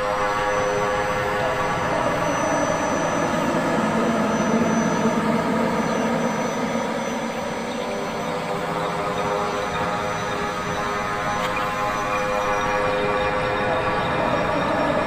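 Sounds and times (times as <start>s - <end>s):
dark rumbling drone music: 0.0s - 15.0s.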